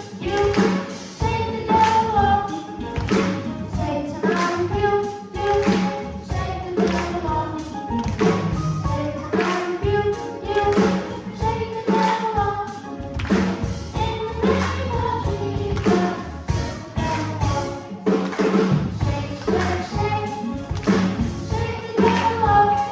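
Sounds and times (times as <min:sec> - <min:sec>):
children's choir singing: 0:00.0 - 0:22.9
instrumental accompaniment with beat: 0:00.0 - 0:22.9.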